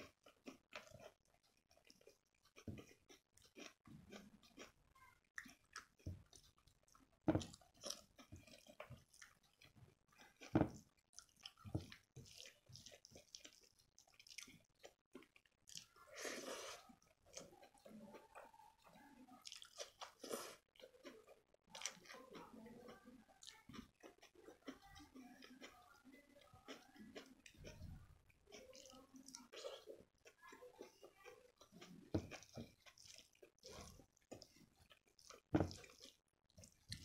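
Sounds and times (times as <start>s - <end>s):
person chewing and smacking: 0.0s - 16.0s, 16.9s - 26.0s, 26.6s - 37.0s.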